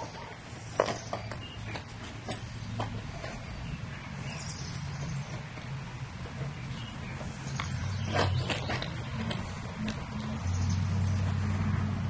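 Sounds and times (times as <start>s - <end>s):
rope strands rubbing and creaking: 0.0s - 11.4s.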